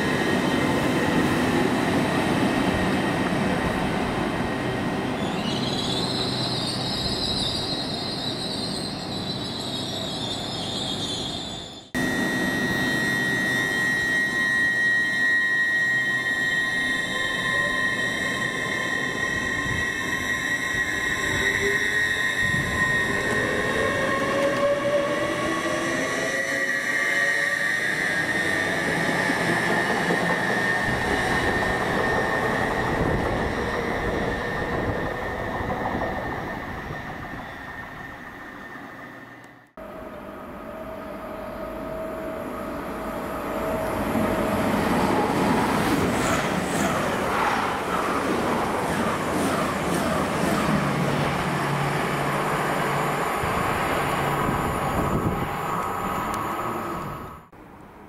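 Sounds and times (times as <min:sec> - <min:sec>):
train passing with whine: 0:00.0 - 0:58.0.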